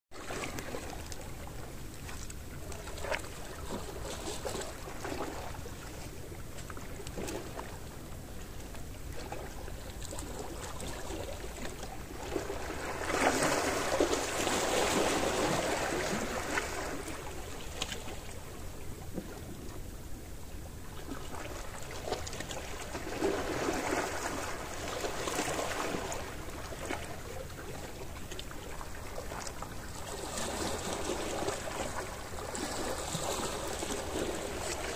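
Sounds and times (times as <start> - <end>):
sea waves washing on shore: 0.1 - 19.8, 20.9 - 34.9.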